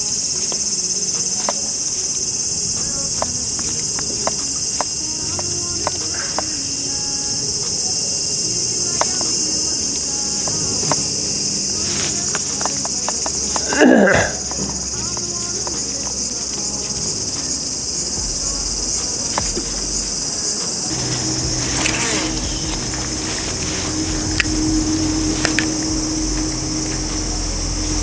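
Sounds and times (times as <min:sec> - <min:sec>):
high insect chorus: 0:00.0 - 0:28.0.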